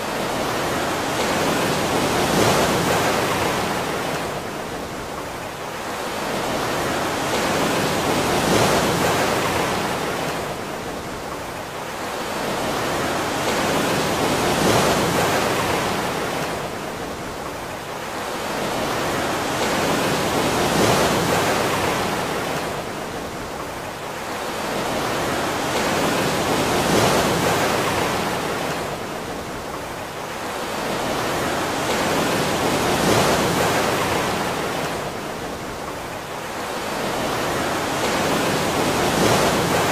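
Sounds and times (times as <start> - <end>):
ocean waves washing: 0.0 - 39.9.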